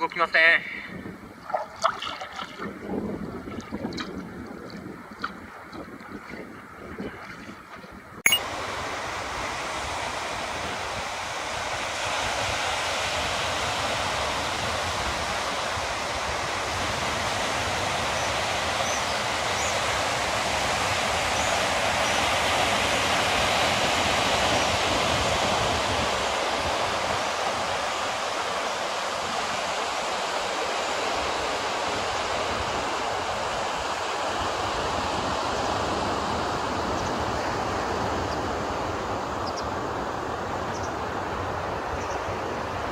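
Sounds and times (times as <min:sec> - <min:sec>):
sea rushing: 0:00.0 - 0:42.9.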